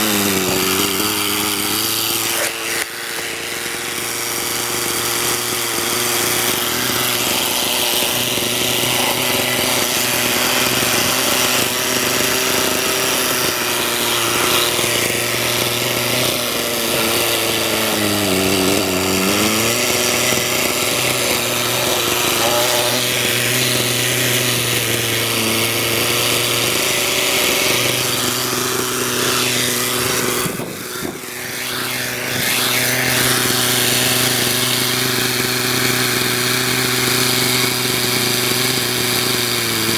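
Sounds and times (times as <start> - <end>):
rc helicopter engine and rotor drone: 0.0 - 39.9.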